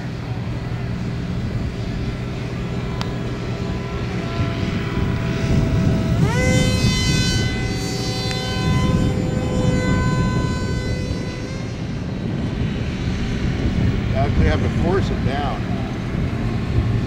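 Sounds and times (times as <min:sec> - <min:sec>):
electric motor propeller buzzing: 0:00.0 - 0:17.0
wind rumbling on microphone: 0:00.0 - 0:17.0.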